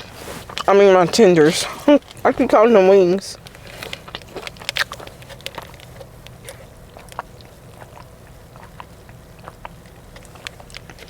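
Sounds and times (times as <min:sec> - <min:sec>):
chewing crispy fried chicken: 0:00.0 - 0:11.0.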